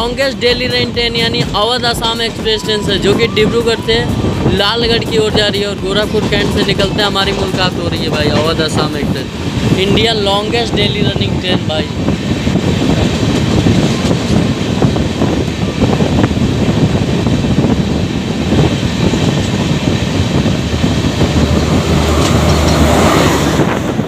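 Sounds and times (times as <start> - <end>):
passing train coaches clattering: 0.0 - 24.0
train running noise: 0.0 - 24.0.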